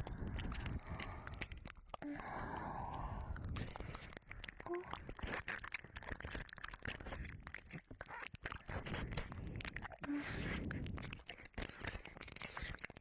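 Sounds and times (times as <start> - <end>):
wet licking mouth sounds: 0.0 - 13.0.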